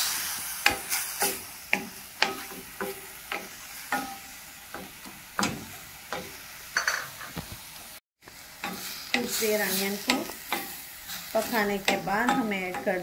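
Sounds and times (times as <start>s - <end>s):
food sizzling in hot oil: 0.0s - 13.0s
spatula scraping and knocking pan: 0.5s - 7.5s, 8.6s - 13.0s.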